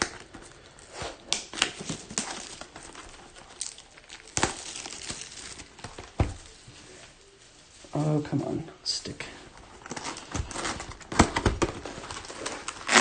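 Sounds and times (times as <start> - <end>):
plastic wrapping crinkling and tearing: 0.0 - 8.5, 9.5 - 13.0.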